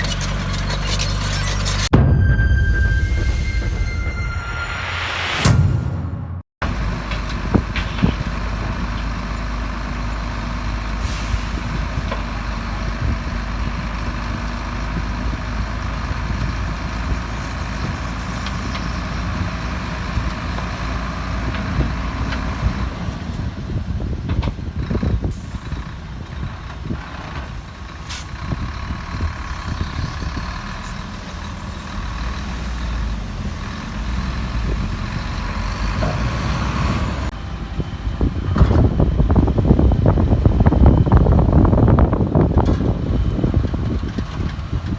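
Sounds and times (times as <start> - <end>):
diesel machinery rumbling: 0.0 - 44.9.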